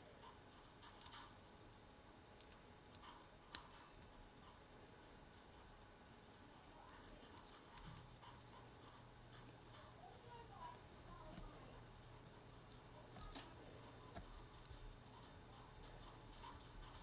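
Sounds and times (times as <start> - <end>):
faint low hum: 0.0 - 17.0
small clicks and scratchy handling: 2.4 - 17.0.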